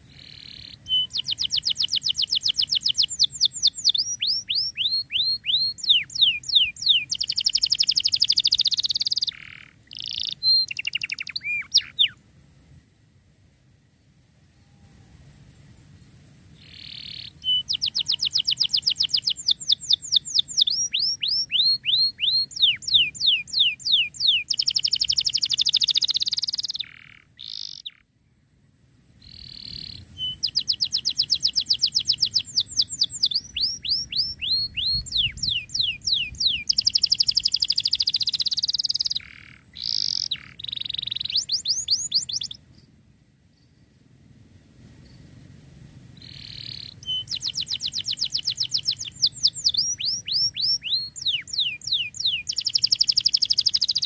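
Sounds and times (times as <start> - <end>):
canary singing trills: 0.0 - 12.2, 16.6 - 28.1, 29.2 - 42.6, 46.2 - 54.0.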